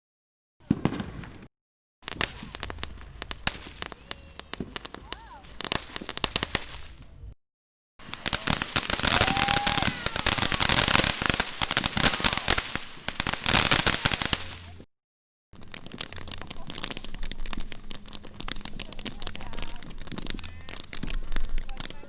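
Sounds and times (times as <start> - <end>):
sparklers crackling: 0.6 - 7.4, 8.0 - 14.9, 15.6 - 22.0.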